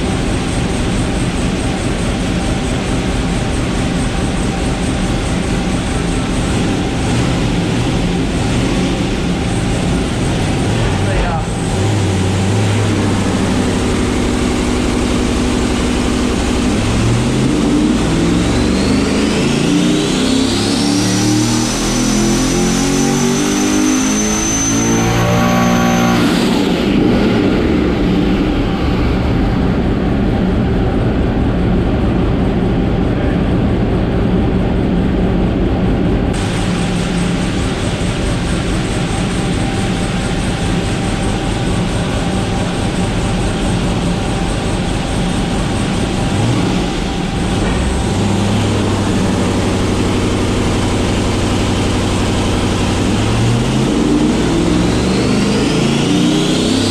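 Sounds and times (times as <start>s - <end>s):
turbo whine: 0.0s - 56.9s
engine revving at full throttle: 3.7s - 29.7s, 36.3s - 56.9s.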